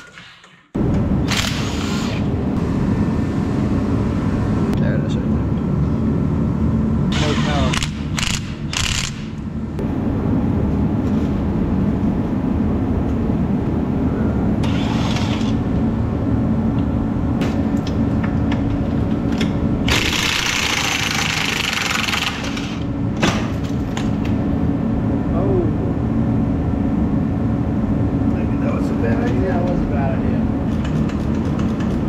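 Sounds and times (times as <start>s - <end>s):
low machine rumble: 0.8s - 32.0s.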